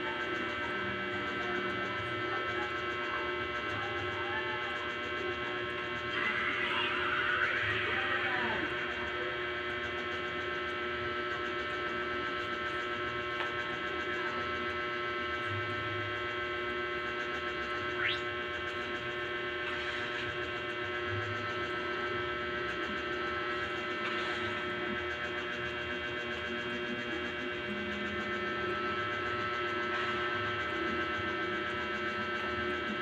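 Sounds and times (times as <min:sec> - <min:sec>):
electric fan motor humming: 0:00.0 - 0:33.0.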